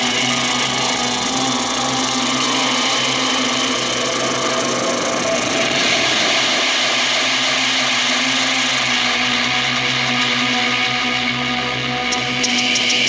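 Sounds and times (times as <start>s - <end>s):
distorted drone over noisy wash: 0.0s - 13.0s.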